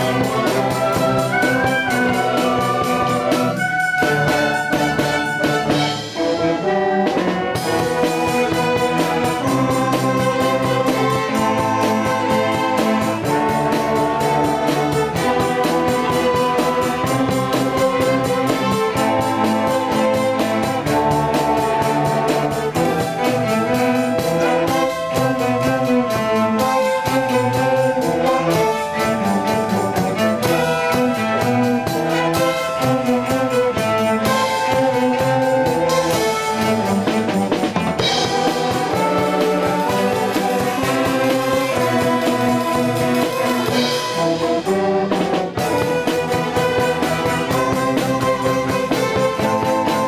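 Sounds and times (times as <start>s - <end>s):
orchestra playing: 0.0s - 50.0s.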